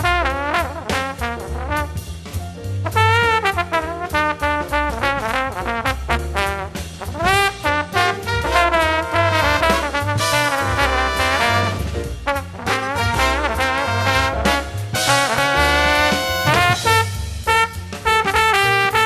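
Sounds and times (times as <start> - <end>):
brass lead line: 0.0 - 2.1, 2.8 - 19.0
jazz band playing: 0.0 - 19.0.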